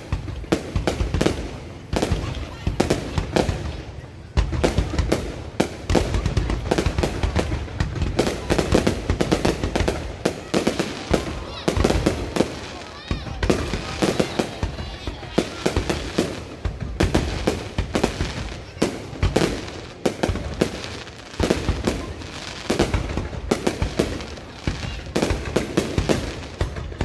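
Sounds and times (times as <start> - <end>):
fireworks banging: 0.0 - 27.0.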